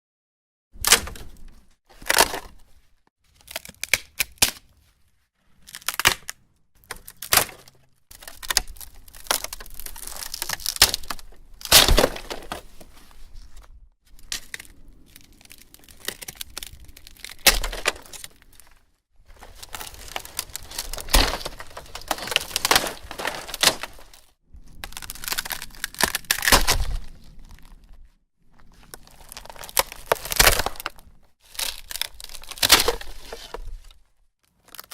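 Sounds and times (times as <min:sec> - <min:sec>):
wood cracking and splintering: 0:00.8 - 0:02.6, 0:03.3 - 0:04.7, 0:05.6 - 0:28.0, 0:28.6 - 0:34.9.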